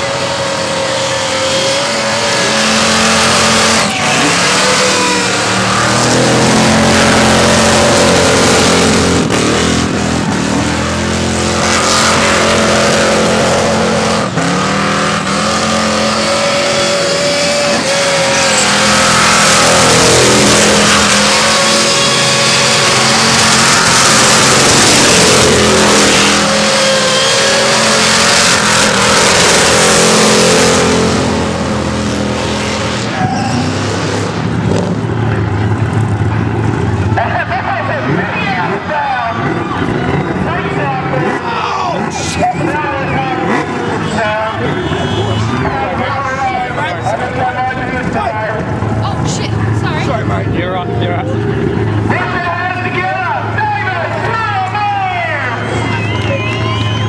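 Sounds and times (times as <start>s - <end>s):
supercharged engine revving: 0.0s - 54.9s.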